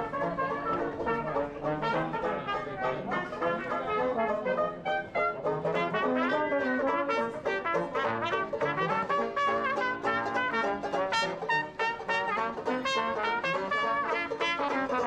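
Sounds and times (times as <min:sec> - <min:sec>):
banjo: 0:00.0 - 0:15.0
trombone: 0:00.0 - 0:15.0
trumpet: 0:00.0 - 0:15.0.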